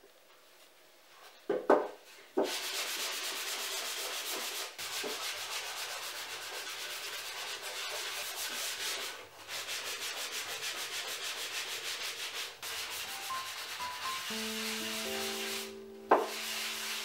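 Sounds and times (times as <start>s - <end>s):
sanding sponge scratching wood: 2.4s - 17.0s.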